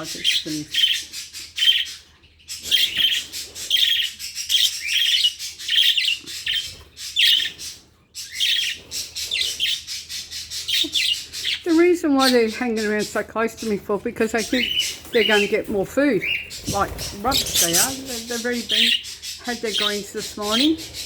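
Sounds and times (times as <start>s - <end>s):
budgerigars chattering and chirping: 0.0s - 21.0s.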